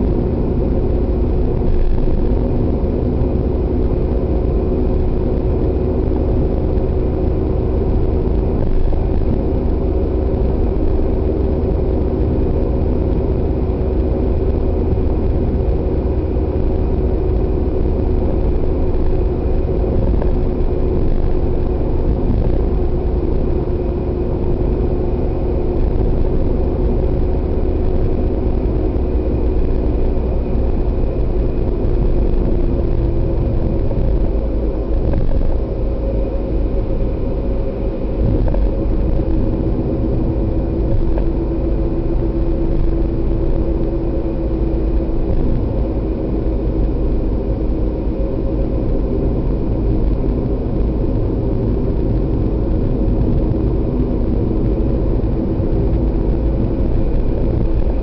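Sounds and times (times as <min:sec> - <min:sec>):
car engine and tyre rumble: 0:00.0 - 0:58.0
steady hum: 0:00.0 - 0:58.0.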